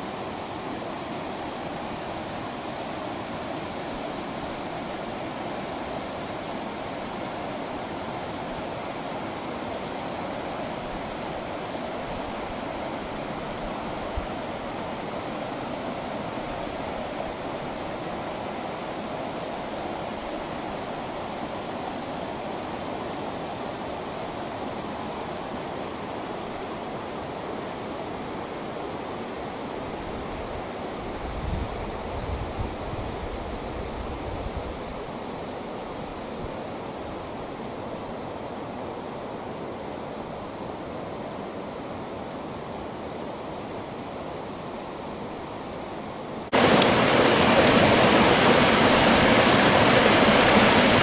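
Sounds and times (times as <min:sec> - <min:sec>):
creek water running: 0:00.0 - 0:51.0.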